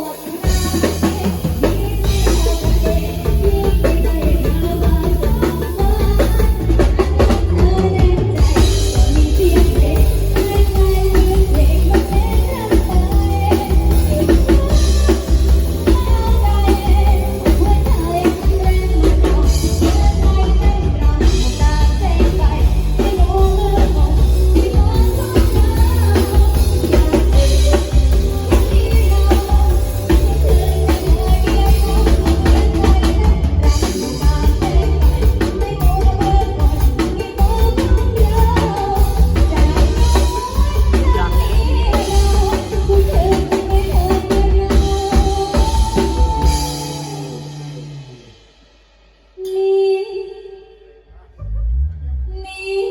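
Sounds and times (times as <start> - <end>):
person singing: 0.0 - 48.4
band music through speakers: 0.0 - 50.2
bass drum thumping: 0.4 - 46.9.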